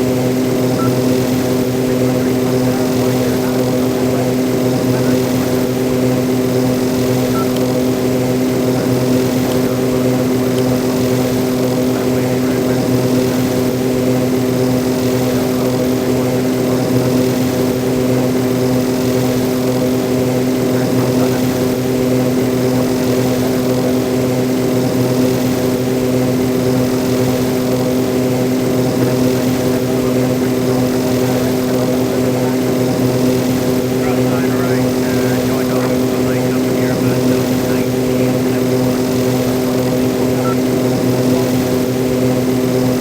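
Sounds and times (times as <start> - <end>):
turboprop engines droning: 0.0 - 43.0.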